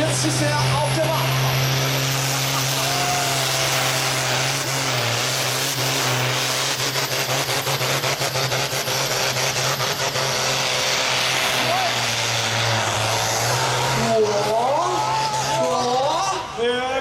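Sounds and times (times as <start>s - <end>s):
diesel tractor running under load: 0.0s - 17.0s.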